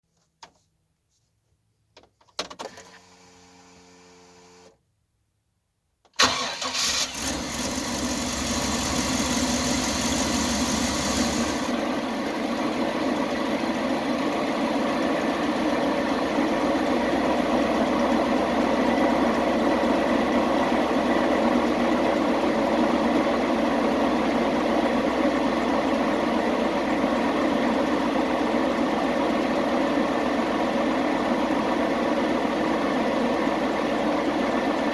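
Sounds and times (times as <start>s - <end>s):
van engine starting and idling: 6.2s - 34.9s.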